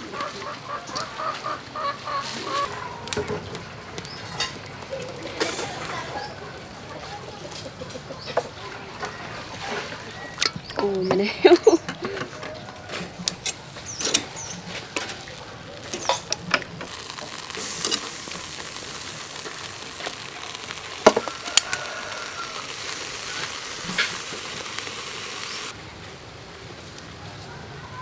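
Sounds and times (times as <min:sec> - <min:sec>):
meat sizzling on grill: 0:00.0 - 0:11.1, 0:12.9 - 0:28.0.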